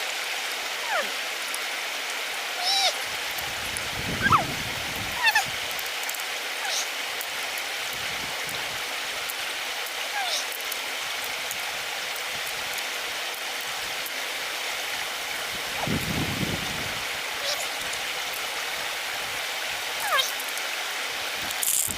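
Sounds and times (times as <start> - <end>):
running water: 0.0 - 21.9.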